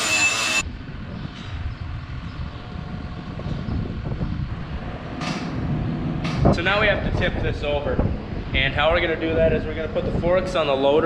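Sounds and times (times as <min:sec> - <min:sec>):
wind buffeting microphone: 0:00.6 - 0:11.0.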